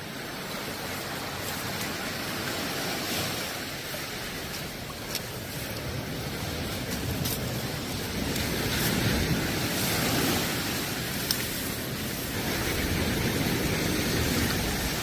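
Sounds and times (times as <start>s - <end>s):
sea waves washing onto shore: 0.0s - 15.0s
wind on microphone: 0.0s - 15.0s.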